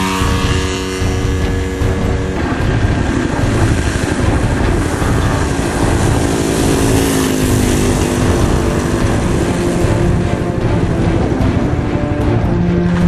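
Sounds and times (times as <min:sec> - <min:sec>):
low rumble: 0:00.0 - 0:13.0
small propeller engine buzzing: 0:00.0 - 0:13.0.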